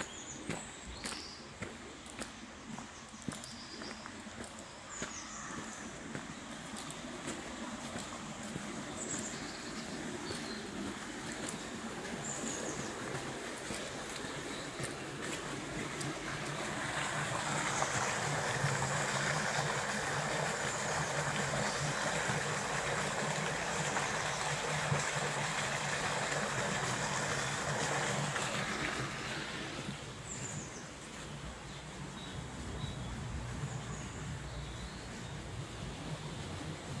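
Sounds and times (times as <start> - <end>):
water rushing through stone channel: 0.0 - 37.0.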